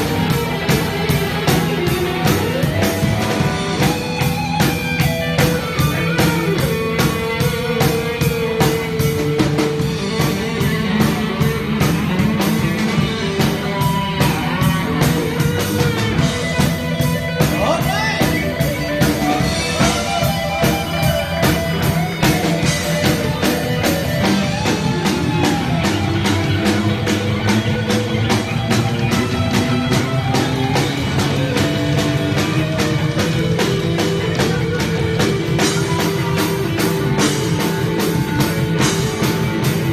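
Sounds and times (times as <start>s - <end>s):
drum kit beat: 0.0s - 39.9s
electric guitar lines: 0.0s - 39.9s.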